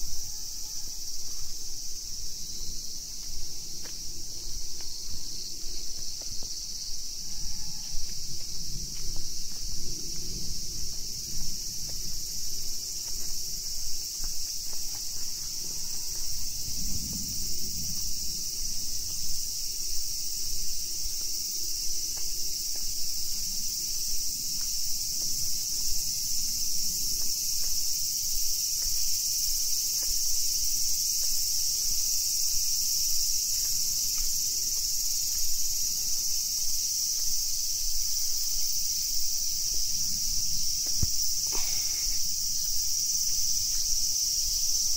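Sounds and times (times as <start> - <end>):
insect chorus: 0.0 - 44.9.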